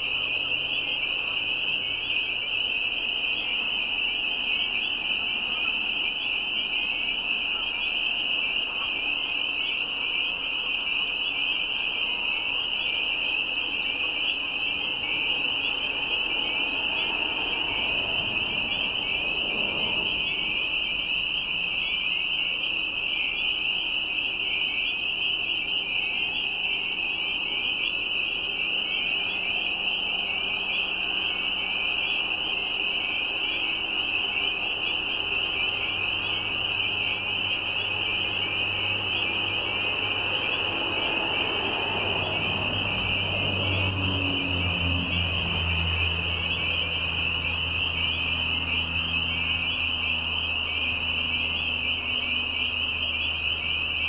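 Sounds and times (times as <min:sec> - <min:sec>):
chorus of frogs peeping: 0:00.0 - 0:54.0.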